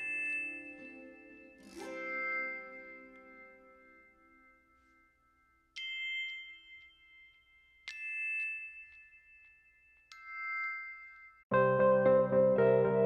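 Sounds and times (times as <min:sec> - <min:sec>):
bell-like chime notes ringing: 0:00.0 - 0:11.5.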